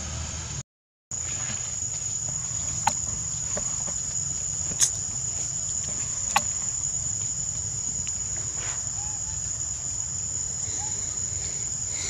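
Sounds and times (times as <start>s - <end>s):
insects droning in chorus: 1.1s - 12.0s
low steady rumble: 1.2s - 12.0s.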